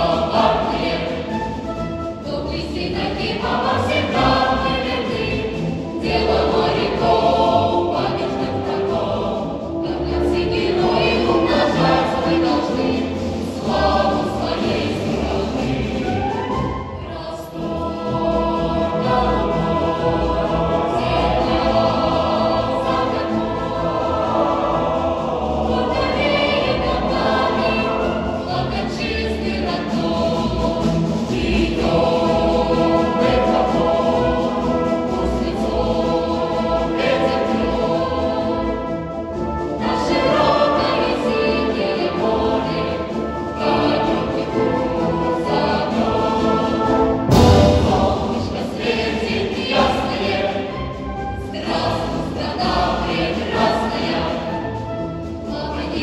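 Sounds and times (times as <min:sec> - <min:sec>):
military band playing: 0:00.0 - 0:55.9
children's choir singing a march: 0:00.0 - 0:56.0.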